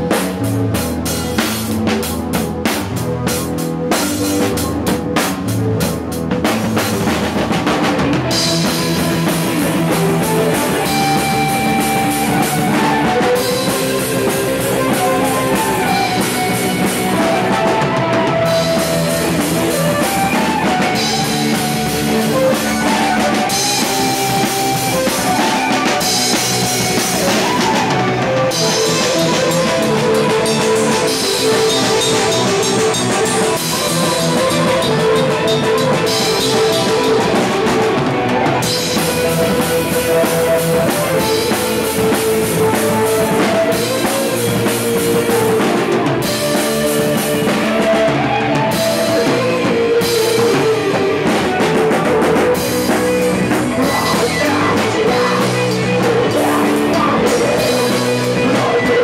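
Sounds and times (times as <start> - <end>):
guitar melody: 0.0 - 59.0
rock band instrumental: 0.0 - 59.0.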